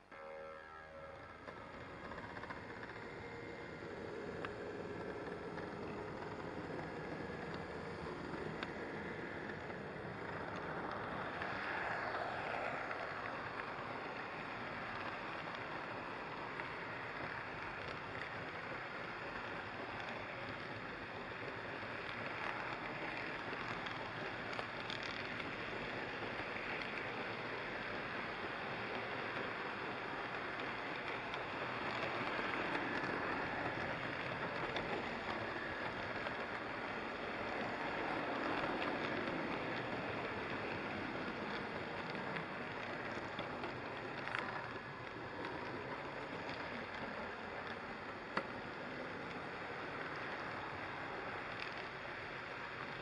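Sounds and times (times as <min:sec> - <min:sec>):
model train rolling on track: 0:00.0 - 0:53.0.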